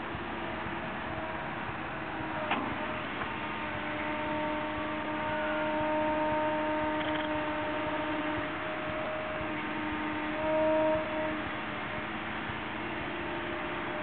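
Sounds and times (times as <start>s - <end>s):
excavator engine and hydraulic hum: 0.0s - 14.0s.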